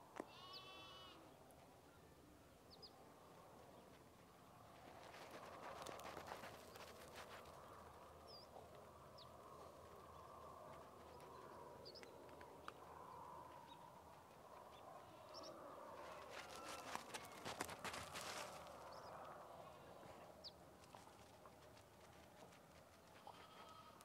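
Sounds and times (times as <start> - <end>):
faint rural outdoor background: 0.0 - 24.0.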